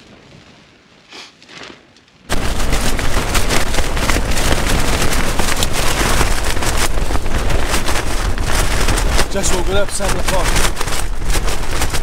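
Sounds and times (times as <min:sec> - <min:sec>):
tent fabric flapping: 0:00.0 - 0:12.0
wind buffeting microphone: 0:02.3 - 0:12.0.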